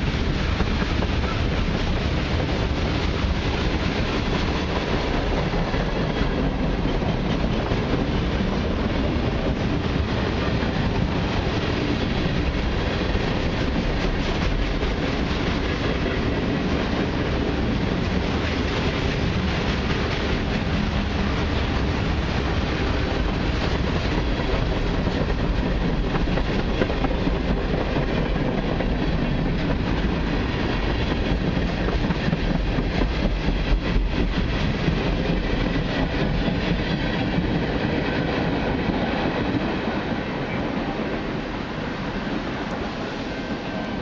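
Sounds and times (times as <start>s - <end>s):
freight train rolling past: 0.0s - 44.0s.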